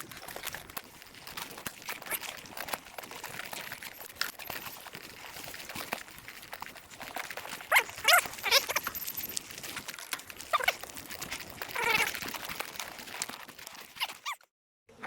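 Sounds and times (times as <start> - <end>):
bicycle tyres crunching on dirt: 0.0 - 13.8.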